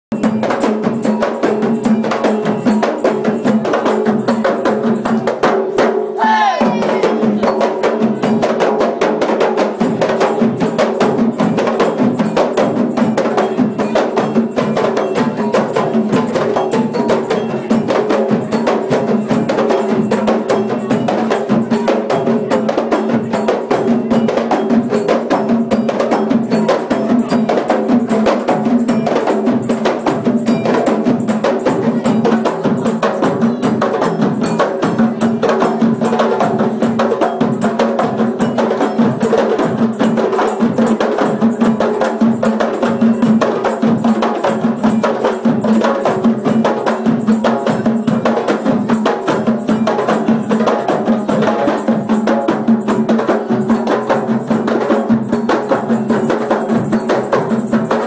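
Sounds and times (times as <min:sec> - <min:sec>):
double-headed drum beat: 0:00.1 - 0:58.0
frame drums beaten by hand: 0:00.1 - 0:58.0.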